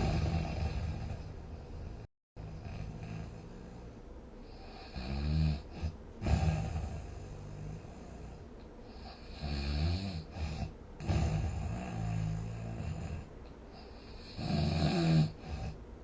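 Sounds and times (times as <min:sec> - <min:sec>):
person snoring: 0:00.0 - 0:15.8.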